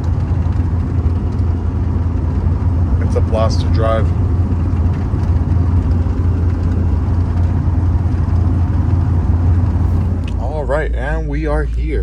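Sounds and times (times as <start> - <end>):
pickup truck engine and road noise: 0.0 - 12.0.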